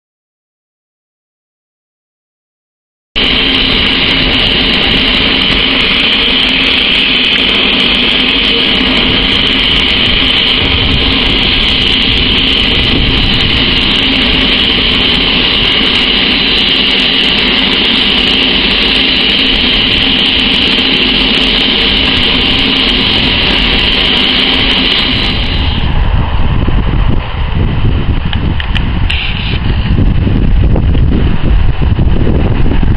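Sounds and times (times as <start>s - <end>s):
turboprop engines whining: 3.2s - 32.9s.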